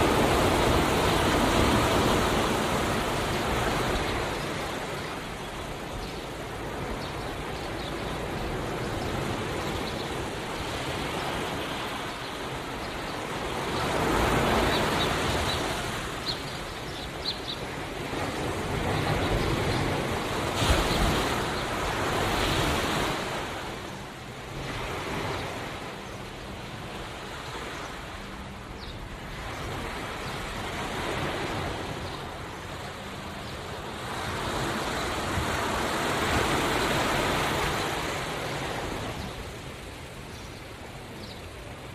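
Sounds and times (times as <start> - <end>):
ocean waves on the shore: 0.0 - 41.9.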